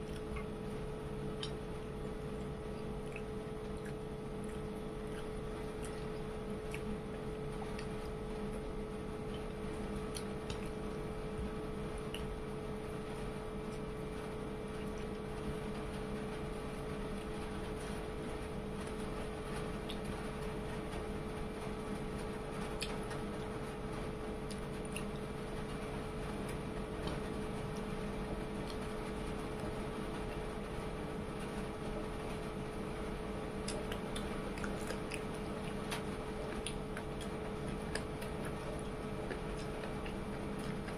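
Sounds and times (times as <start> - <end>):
faint chewing and squishing: 0.0 - 40.9
steady background hum: 0.0 - 40.9.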